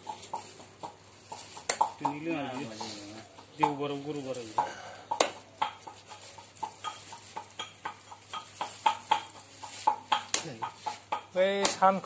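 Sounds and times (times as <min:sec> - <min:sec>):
knife chopping meat on wooden block: 0:00.0 - 0:03.8, 0:04.5 - 0:12.0.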